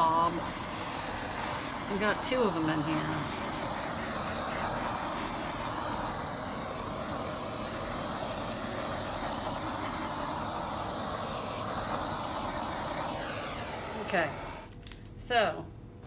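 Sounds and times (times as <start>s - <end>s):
torch flame hissing: 0.0s - 14.8s.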